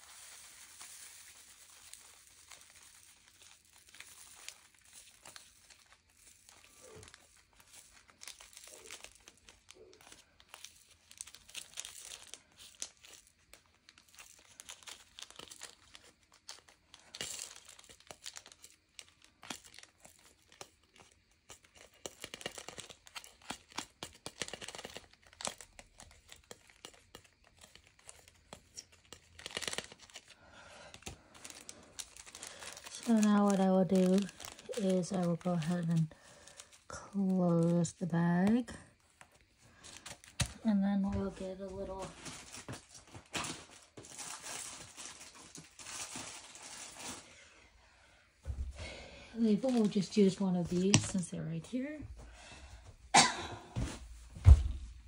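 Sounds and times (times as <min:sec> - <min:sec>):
plastic bag crinkling: 0:00.0 - 0:47.6, 0:48.8 - 0:51.9.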